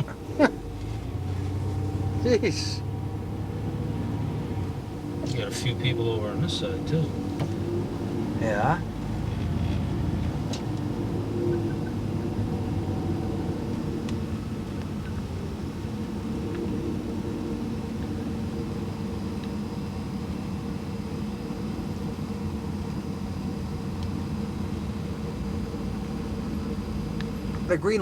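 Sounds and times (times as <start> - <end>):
car engine and road hum: 0.0 - 28.0.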